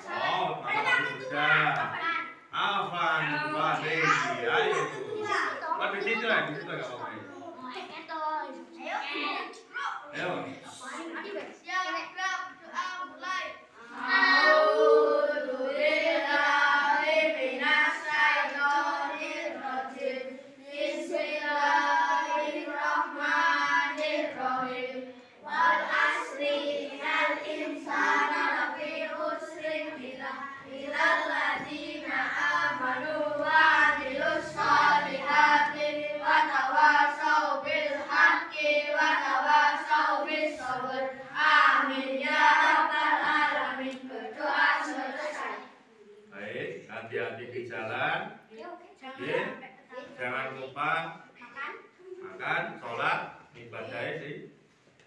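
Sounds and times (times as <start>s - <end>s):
children chanting a prayer: 0.0s - 45.9s.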